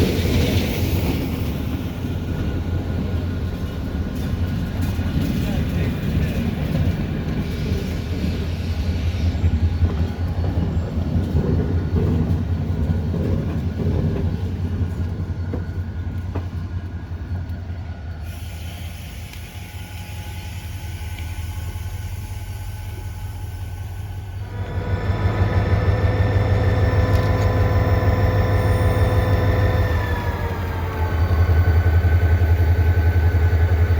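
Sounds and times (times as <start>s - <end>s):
diesel locomotive engine rumble: 0.0s - 33.9s.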